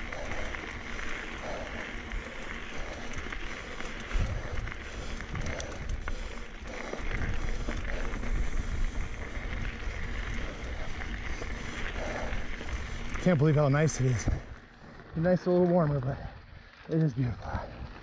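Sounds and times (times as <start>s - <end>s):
wind rumbling on microphone: 0.0s - 15.2s
bike rattling with clicks: 0.0s - 18.0s.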